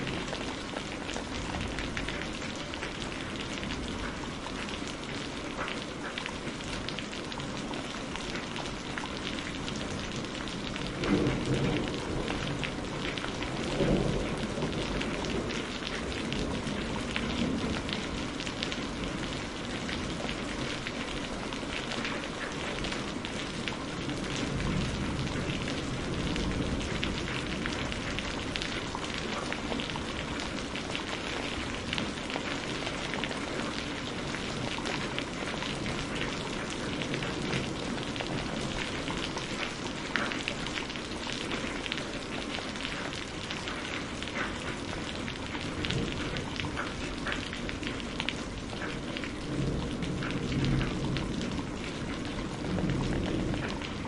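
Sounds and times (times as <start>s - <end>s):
steady rain with ticking drops: 0.0s - 54.0s
thunder rumbling: 8.5s - 21.7s, 22.4s - 43.4s, 44.9s - 54.0s.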